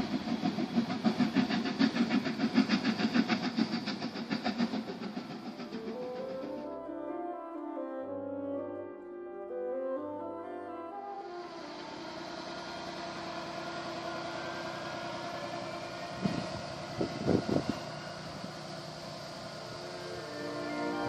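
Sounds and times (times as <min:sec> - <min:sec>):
diesel railcar engine: 0:00.0 - 0:08.7, 0:09.6 - 0:21.0.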